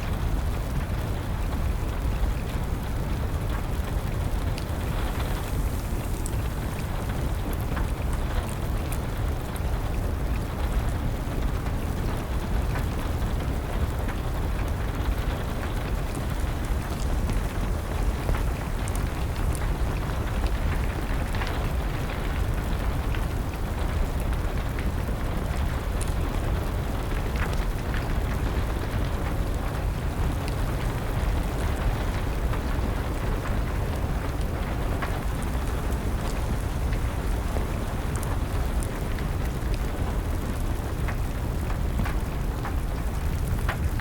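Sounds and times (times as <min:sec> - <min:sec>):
steady rain: 0:00.0 - 0:44.0
wood fire crackling: 0:00.1 - 0:44.0.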